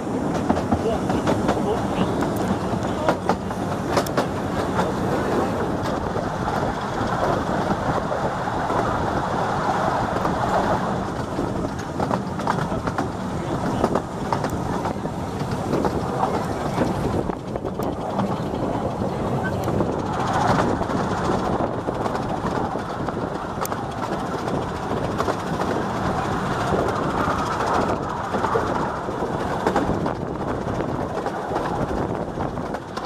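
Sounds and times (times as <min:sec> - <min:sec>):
train wheels rumbling on rail: 0:00.0 - 0:33.0
clicks and clacks: 0:00.3 - 0:08.9, 0:10.1 - 0:33.0.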